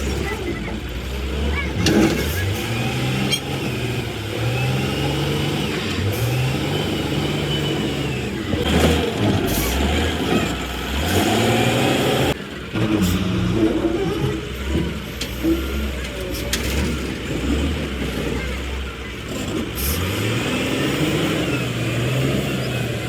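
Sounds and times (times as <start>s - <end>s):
excavator diesel engine revving: 0.0s - 23.0s.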